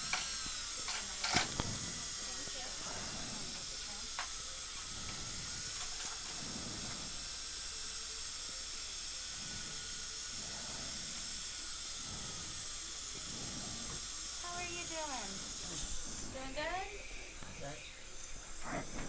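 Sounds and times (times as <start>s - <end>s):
dental equipment hissing: 0.0s - 19.0s.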